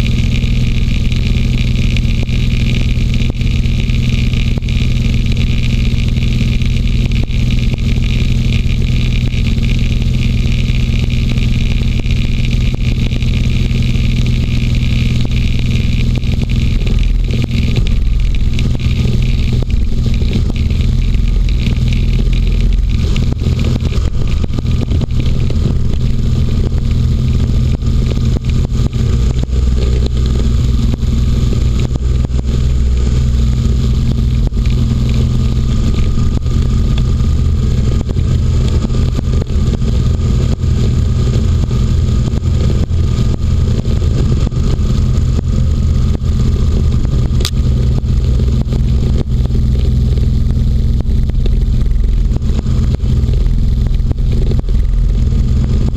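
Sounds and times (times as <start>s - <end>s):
hovercraft engine drone: 0.0s - 55.9s.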